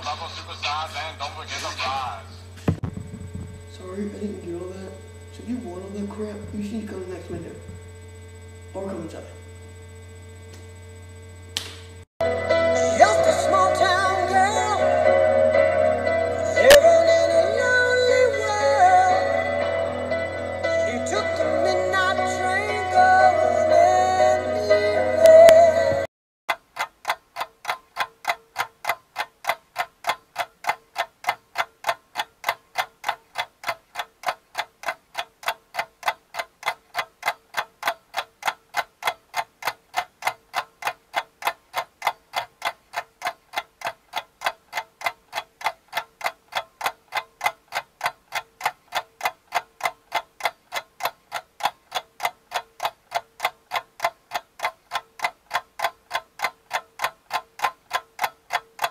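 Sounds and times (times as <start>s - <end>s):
clock-like ticking: 0.0s - 10.0s, 12.4s - 25.8s, 26.5s - 58.9s.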